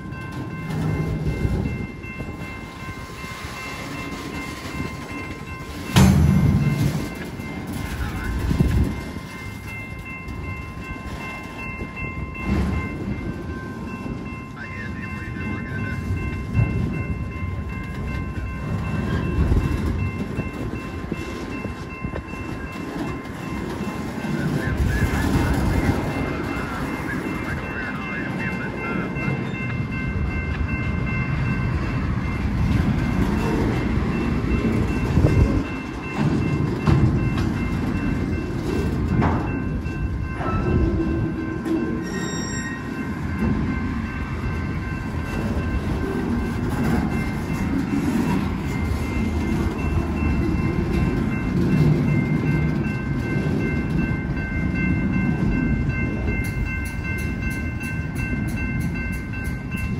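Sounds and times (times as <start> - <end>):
train cars knocking and banging: 0.0 - 59.9
train wheels rumbling on rails: 0.0 - 59.9.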